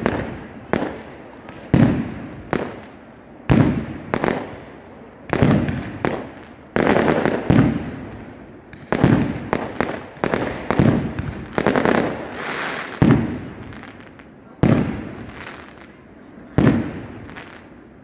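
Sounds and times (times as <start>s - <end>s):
fireworks bangs: 0.0s - 17.9s.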